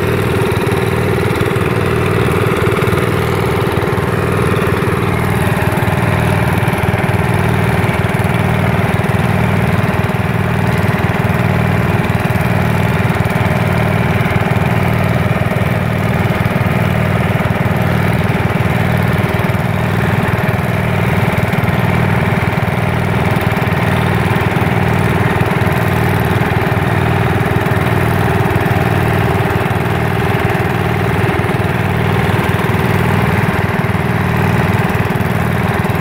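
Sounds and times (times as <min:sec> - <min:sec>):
garden tractor engine running: 0:00.0 - 0:36.0.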